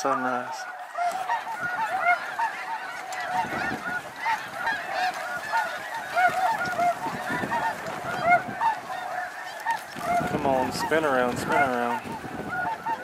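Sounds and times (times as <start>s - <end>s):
flock of geese honking: 0.0s - 13.0s.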